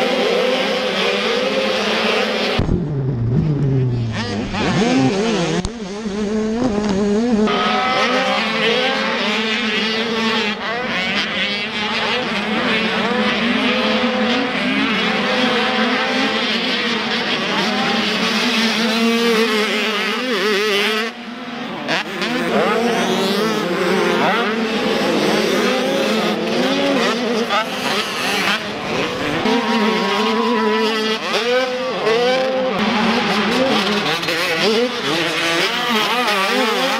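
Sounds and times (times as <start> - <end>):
dirt bike engines revving: 0.0 - 36.9.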